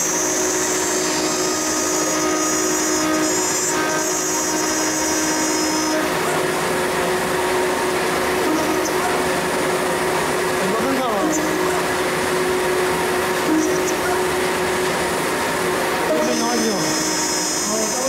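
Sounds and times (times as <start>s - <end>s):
high whine: 0.0s - 18.0s
router spindle running: 0.0s - 18.0s.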